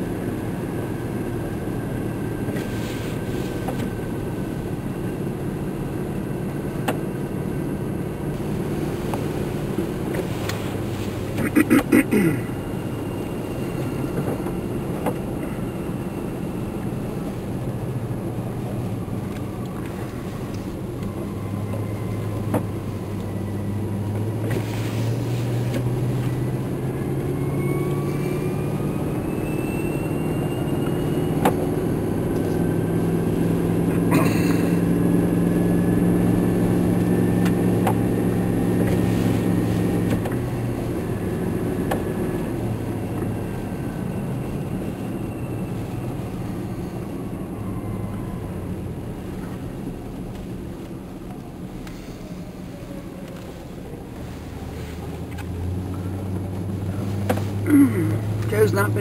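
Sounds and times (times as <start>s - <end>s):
car engine inside cabin: 0.0s - 59.0s
road noise: 0.0s - 59.0s.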